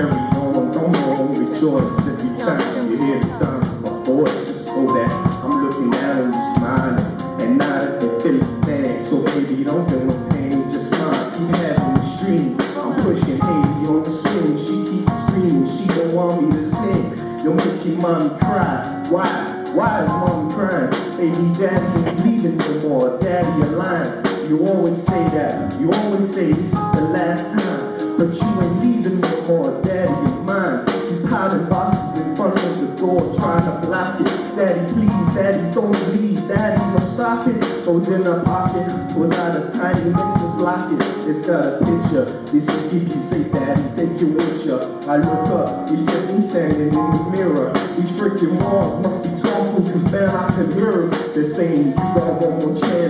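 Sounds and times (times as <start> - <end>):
drum kit beat: 0.0 - 53.0
man singing into a microphone: 0.0 - 53.0.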